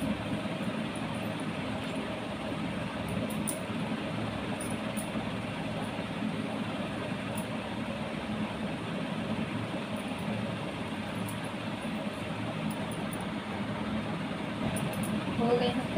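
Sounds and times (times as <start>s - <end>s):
steady mechanical drone: 0.0s - 15.9s.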